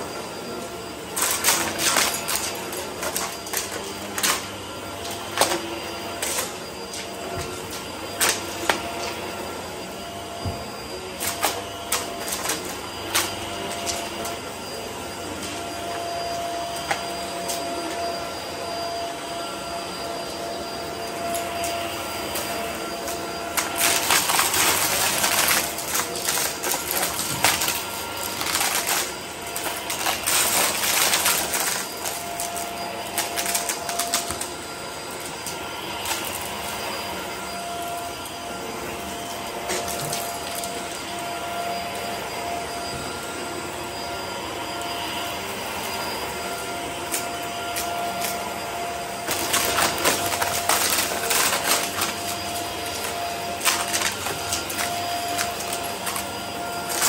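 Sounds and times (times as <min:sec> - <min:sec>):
vacuum cleaner motor whine: 0:00.0 - 0:57.0.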